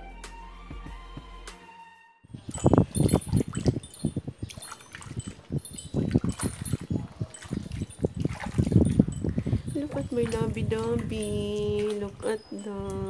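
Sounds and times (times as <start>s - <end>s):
light high tinkles: 2.3s - 13.0s
water sloshing in a basin: 2.4s - 13.0s.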